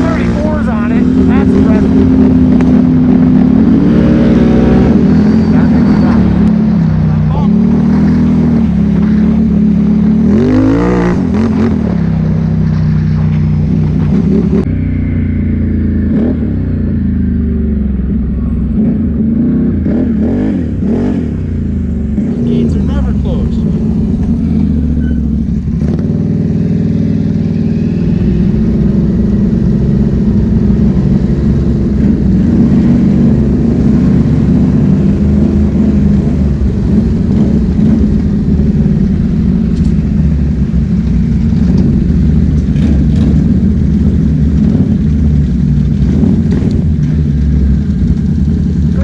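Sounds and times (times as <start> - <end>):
atv engine running: 0.0 - 49.0.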